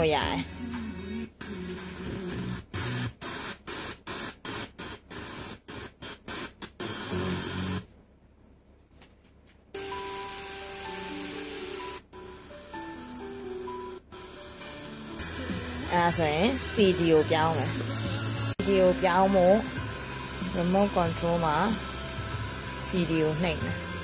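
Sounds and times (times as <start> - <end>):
radio music: 0.0 - 7.8, 9.8 - 24.0
radio static hiss: 0.0 - 7.9, 11.1 - 24.0.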